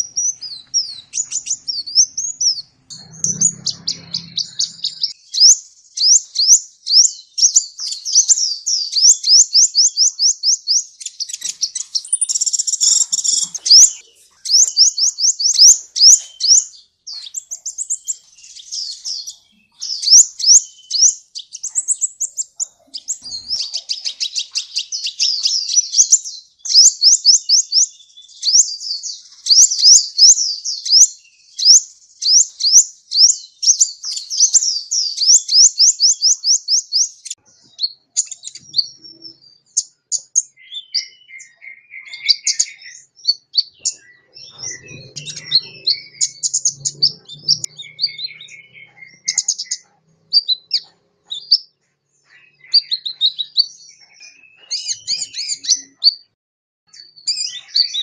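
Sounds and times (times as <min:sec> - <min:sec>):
sunbird song: 0:00.0 - 0:58.0
twittering bird chirps: 0:00.0 - 0:58.0.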